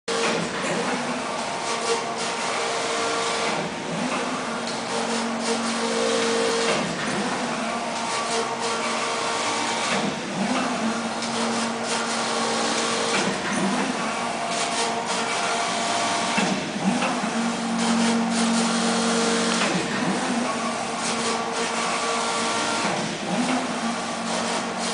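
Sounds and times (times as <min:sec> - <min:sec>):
knitting machine hiss and rattle: 0:00.1 - 0:24.9
machine hum: 0:00.1 - 0:24.9.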